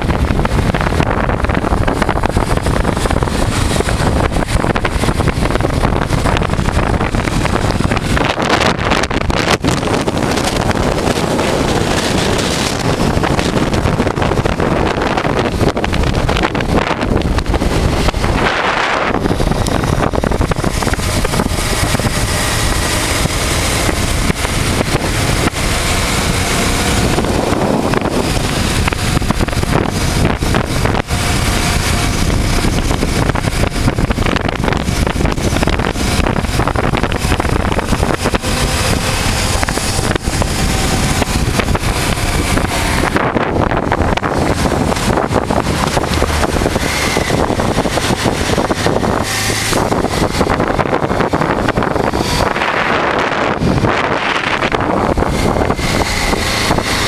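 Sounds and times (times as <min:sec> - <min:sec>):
motorcycle engine rumble: 0:00.0 - 0:57.0
wind noise on microphone: 0:00.0 - 0:57.0.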